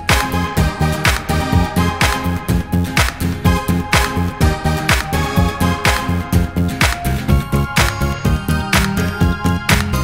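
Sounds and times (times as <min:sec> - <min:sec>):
synth music with bass line: 0:00.0 - 0:10.0.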